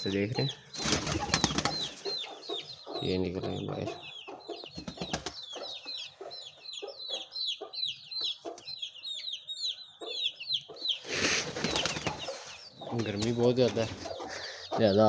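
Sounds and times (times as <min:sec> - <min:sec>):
chicks peeping: 0:00.0 - 0:15.0
hen clucking: 0:00.0 - 0:15.0.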